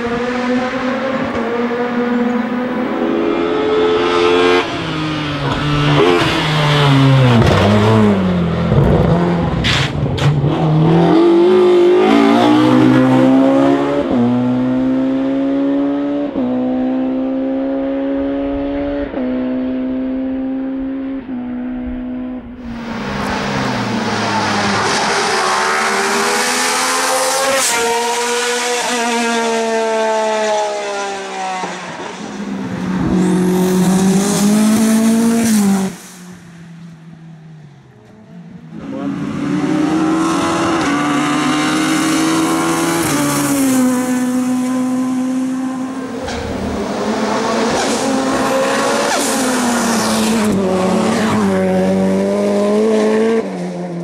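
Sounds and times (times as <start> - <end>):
race car engine at full throttle: 0.0 - 54.0.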